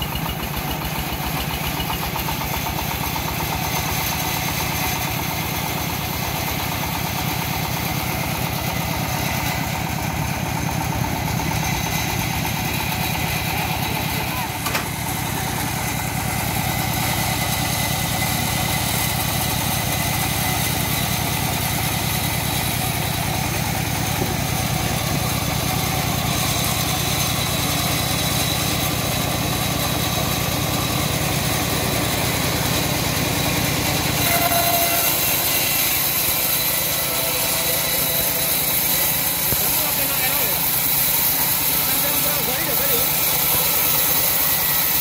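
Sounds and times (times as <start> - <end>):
sawmill engine running: 0.0 - 45.0
band saw blade cutting log: 0.1 - 45.0.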